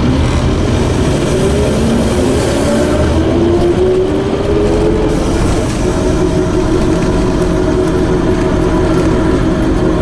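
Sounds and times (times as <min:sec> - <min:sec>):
bus engine and road rumble: 0:00.0 - 0:10.0
bus gear whine: 0:00.0 - 0:10.0.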